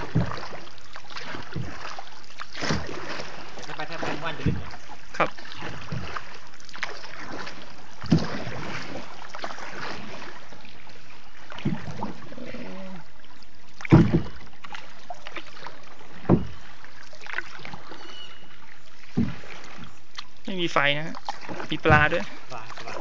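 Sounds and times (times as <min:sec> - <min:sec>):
paddle splashing water: 0:00.0 - 0:23.0.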